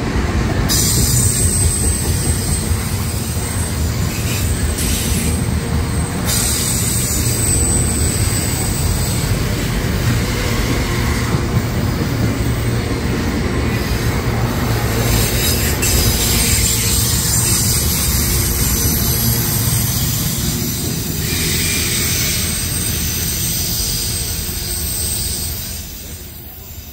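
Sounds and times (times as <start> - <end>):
freight train rolling past: 0.0 - 26.9.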